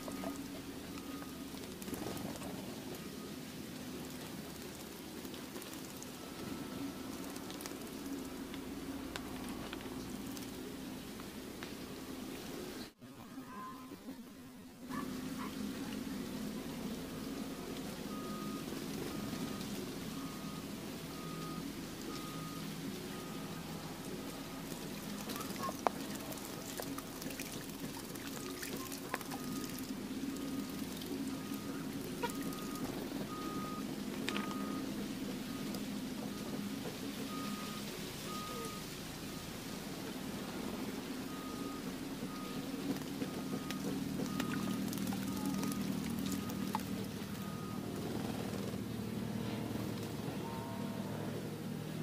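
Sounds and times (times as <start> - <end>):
birds splashing in water: 0.0 - 13.9, 14.8 - 50.4.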